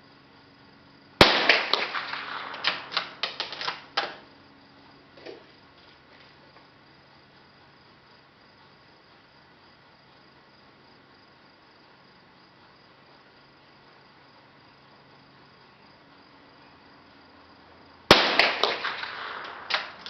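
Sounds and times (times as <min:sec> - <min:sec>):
insects chirring: 0:00.0 - 0:20.0
low hiss: 0:00.0 - 0:20.0.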